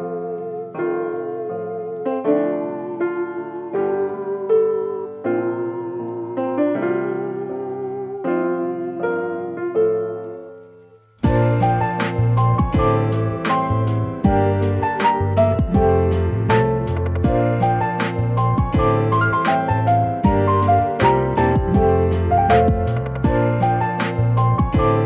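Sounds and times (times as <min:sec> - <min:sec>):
keyboard melody over piano chords: 0:00.0 - 0:25.0
music track with a beat: 0:00.0 - 0:25.0.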